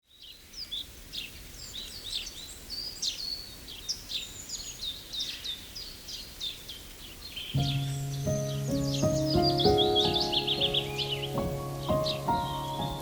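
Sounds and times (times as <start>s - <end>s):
songbirds chirping: 0.0s - 13.0s
faint steady hiss: 0.1s - 13.0s.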